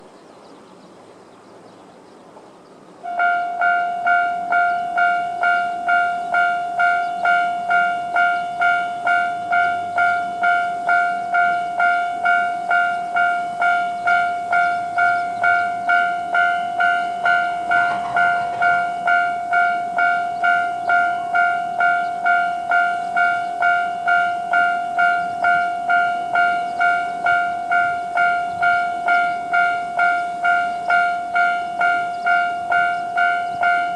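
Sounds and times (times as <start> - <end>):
level crossing alarm bell: 3.1 - 33.9.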